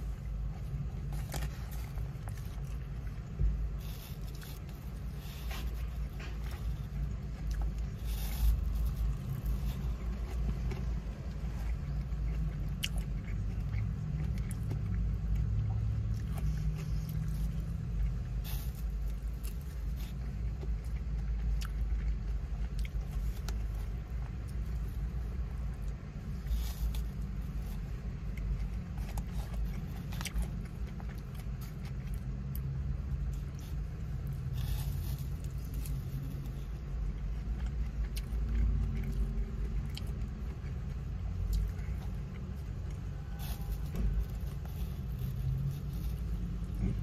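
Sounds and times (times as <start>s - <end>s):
chewing and mouth sounds: 0.0s - 47.0s
steady low rumble: 0.0s - 47.0s.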